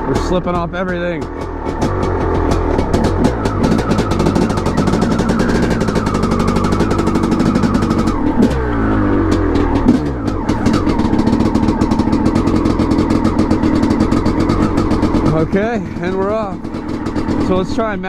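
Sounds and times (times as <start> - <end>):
two-stroke engine idling fast: 0.0 - 18.0.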